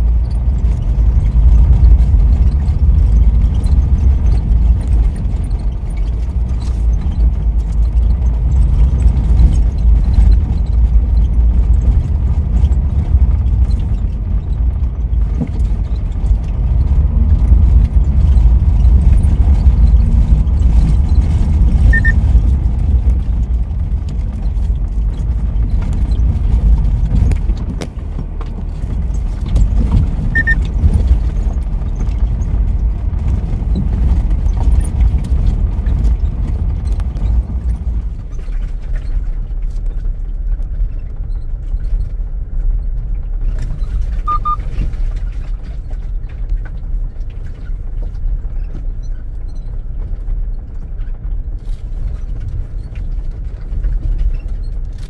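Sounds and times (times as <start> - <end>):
vehicle driving on dirt road: 0.0 - 55.0.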